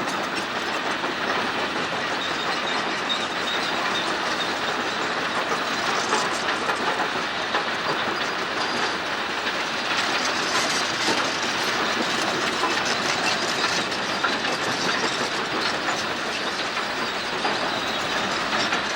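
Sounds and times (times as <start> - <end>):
crawler track links clattering: 0.0 - 18.9
excavator engine: 0.0 - 18.9.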